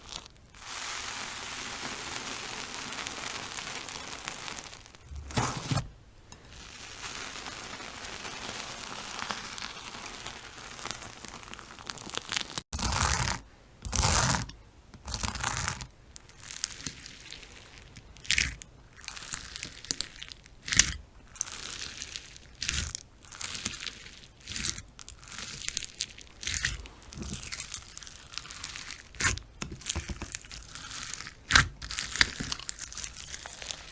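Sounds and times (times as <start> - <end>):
slime squeezed by hand crackling: 0.0 - 5.9, 6.5 - 14.4, 15.1 - 33.9.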